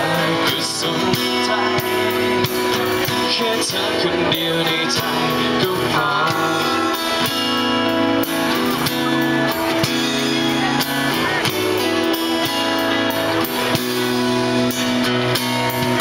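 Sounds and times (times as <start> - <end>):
guitar chords: 0.0 - 16.0
steady drum beat: 0.0 - 16.0.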